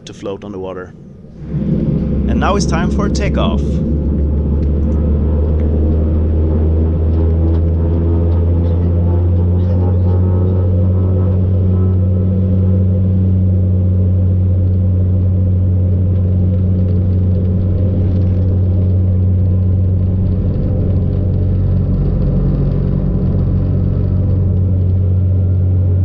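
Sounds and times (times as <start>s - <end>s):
turboprop cabin drone: 0.0s - 26.0s.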